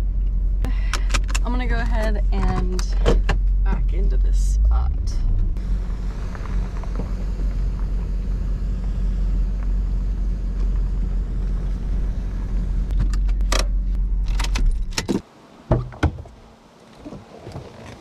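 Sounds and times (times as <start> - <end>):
car engine running: 0.0 - 15.2.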